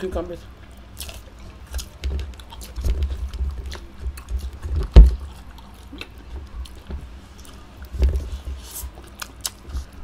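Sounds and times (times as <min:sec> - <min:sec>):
chewing with wet clicks: 0:00.6 - 0:07.9, 0:08.7 - 0:10.0.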